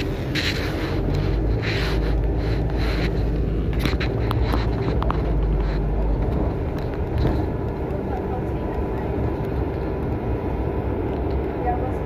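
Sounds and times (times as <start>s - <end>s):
bus engine and road rumble: 0.0s - 12.0s
light rattles and clicks: 0.0s - 12.0s.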